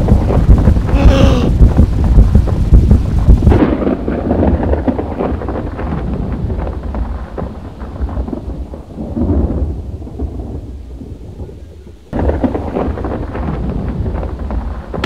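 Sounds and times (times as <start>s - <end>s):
rain-like hiss: 0.0s - 15.0s
rumbling thunder: 0.0s - 15.0s.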